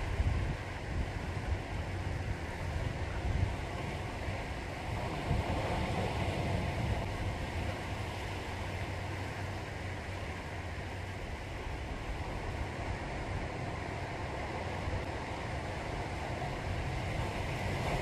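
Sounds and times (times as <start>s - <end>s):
waves washing: 0.0s - 18.0s
wind noise on microphone: 0.0s - 18.0s.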